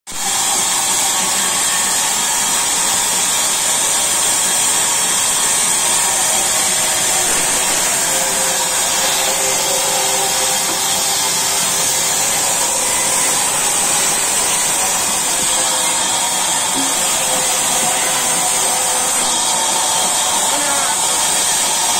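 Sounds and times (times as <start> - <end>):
log saw cutting through log: 0.1 - 21.9.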